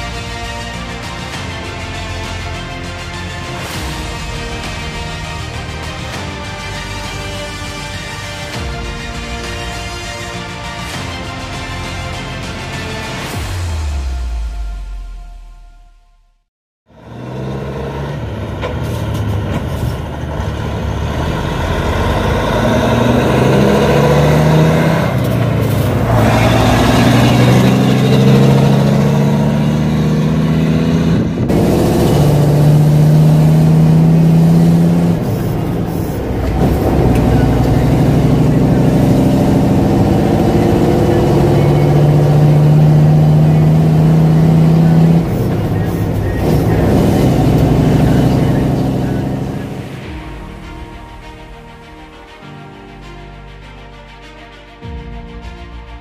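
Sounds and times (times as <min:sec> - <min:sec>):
diesel engines revving: 0:00.0 - 0:15.4, 0:16.9 - 0:52.2.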